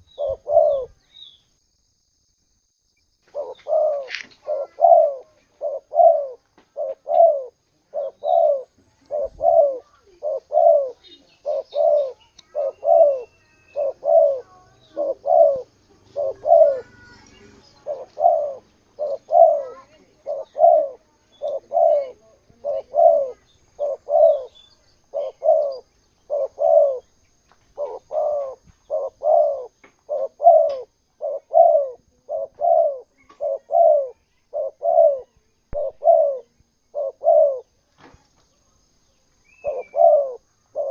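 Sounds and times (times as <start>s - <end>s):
dove cooing: 0.0s - 1.0s, 3.3s - 37.7s, 39.5s - 40.9s
faint bird chirps: 0.0s - 2.1s, 2.8s - 40.9s.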